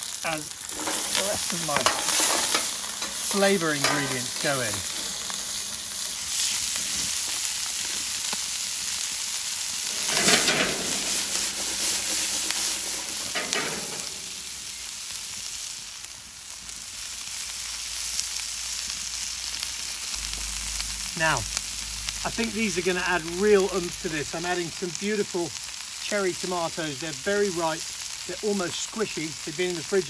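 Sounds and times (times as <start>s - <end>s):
vegetables and bacon sizzling in pan: 0.0s - 30.0s.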